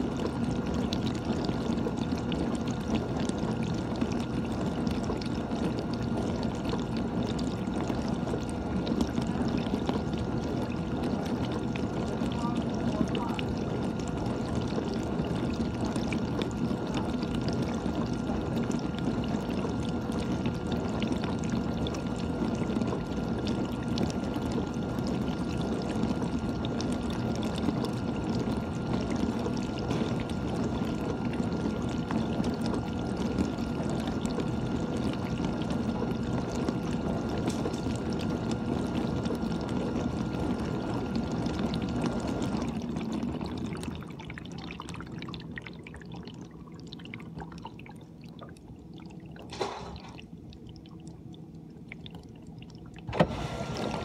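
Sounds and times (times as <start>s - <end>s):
water trickling and dripping: 0.0s - 53.1s
pump motor hum: 0.0s - 54.0s.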